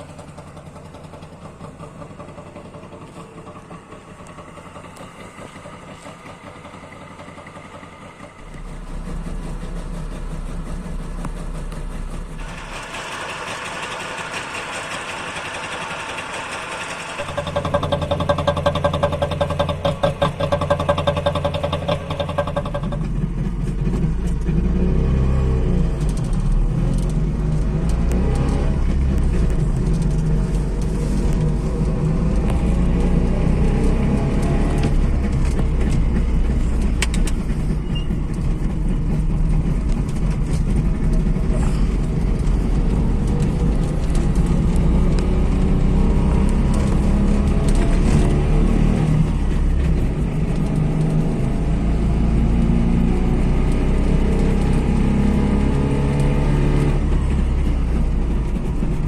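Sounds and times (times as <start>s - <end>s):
two-stroke car engine running: 0.0s - 59.0s.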